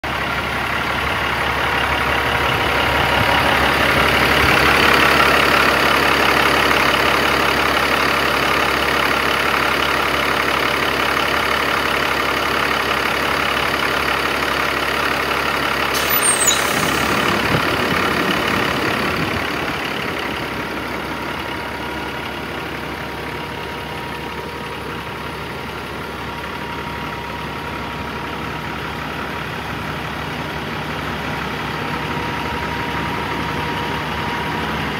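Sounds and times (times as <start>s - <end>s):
diesel engine idling: 0.1s - 15.9s, 17.3s - 34.9s.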